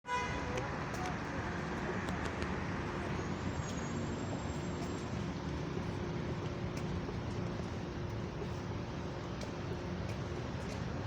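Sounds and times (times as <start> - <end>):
bus engine running: 0.5 - 11.0.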